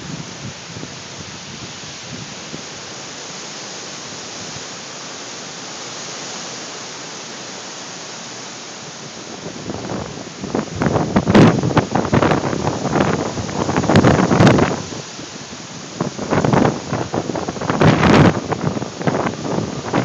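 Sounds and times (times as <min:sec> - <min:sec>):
strong wind behind window: 0:00.0 - 0:20.0.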